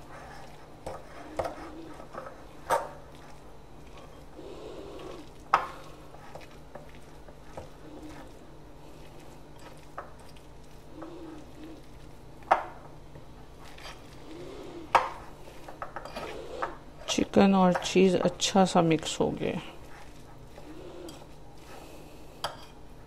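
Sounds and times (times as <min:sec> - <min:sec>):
spoon scraping food in bowl: 0:00.0 - 0:04.4, 0:05.0 - 0:12.7, 0:13.6 - 0:18.1, 0:19.8 - 0:21.8.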